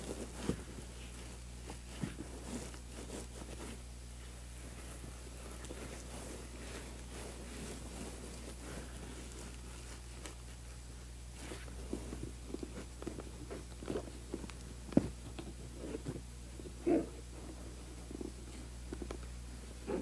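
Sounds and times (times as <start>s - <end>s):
leather rustling: 0.0s - 19.1s
steady low hum: 0.0s - 20.0s.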